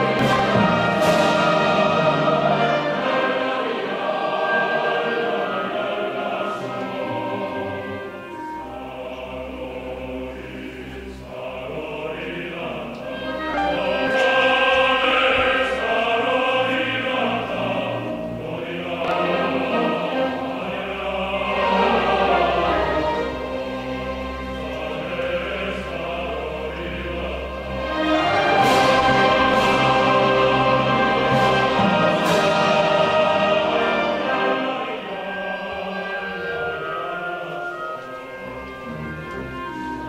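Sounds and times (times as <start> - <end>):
choir singing sustained notes: 0.0 - 40.0
orchestra playing classical music: 0.0 - 40.0.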